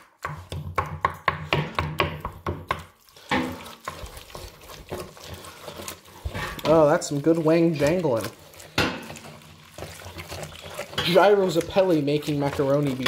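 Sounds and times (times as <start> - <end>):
spoon stirring thick sauce: 0.0 - 13.0.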